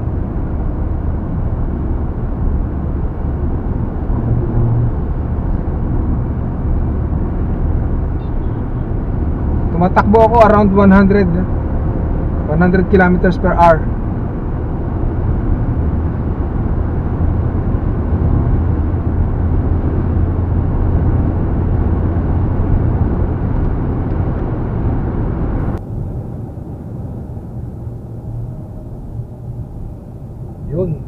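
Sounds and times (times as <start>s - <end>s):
car cabin road and engine drone: 0.0s - 31.0s.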